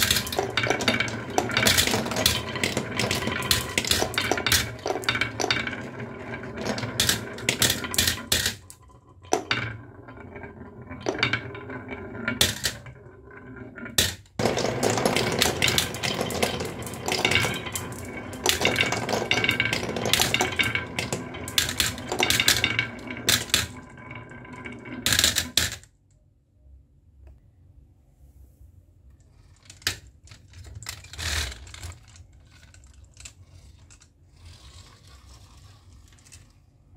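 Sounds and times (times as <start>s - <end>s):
marbles clattering in toy truck: 0.0s - 13.0s, 13.9s - 25.9s, 29.4s - 36.7s
marbles rolling down wooden ramp: 0.0s - 25.9s, 29.3s - 36.9s.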